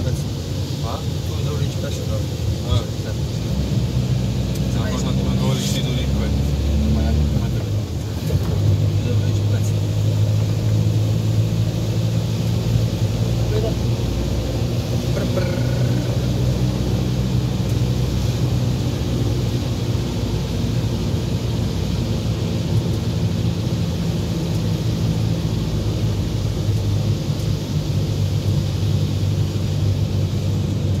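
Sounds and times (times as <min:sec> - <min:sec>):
tyres hissing on wet road: 0:00.0 - 0:31.0
van engine droning: 0:00.0 - 0:31.0.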